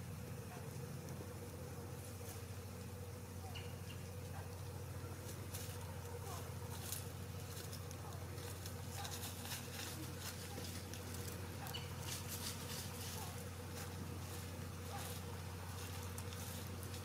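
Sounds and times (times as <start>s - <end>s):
dry leaves crackling: 0.0s - 17.0s
steady low hum: 0.0s - 17.0s.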